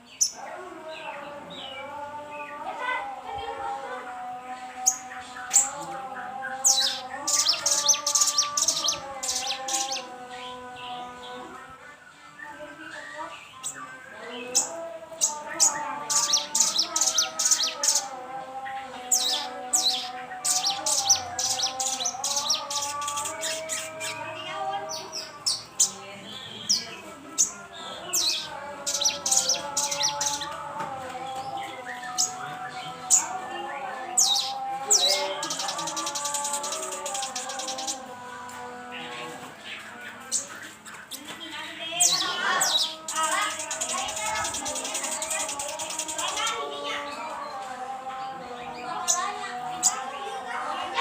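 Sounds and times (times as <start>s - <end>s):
bird chirping: 4.2s - 50.2s.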